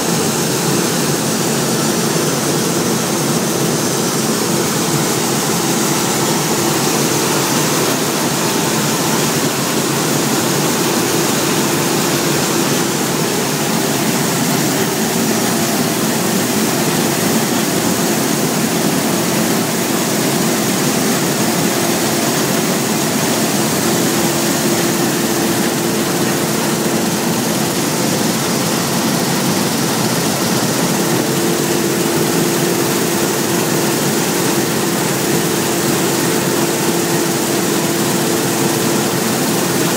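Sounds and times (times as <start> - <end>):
combine harvester droning: 0.0 - 39.6.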